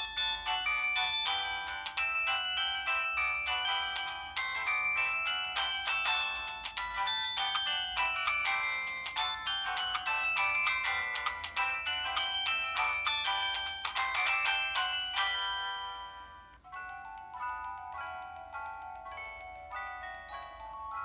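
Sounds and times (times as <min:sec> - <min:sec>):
phone ringtone melody: 0:00.0 - 0:21.0.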